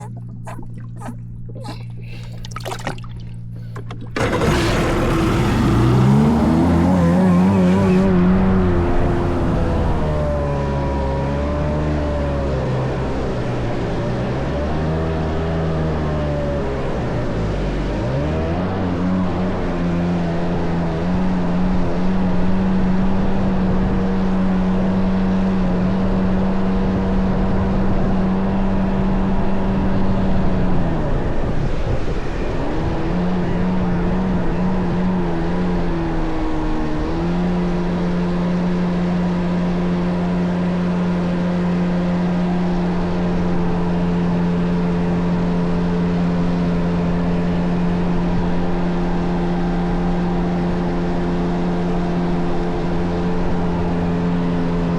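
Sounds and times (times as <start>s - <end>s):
jet ski engine running: 0.0s - 54.9s.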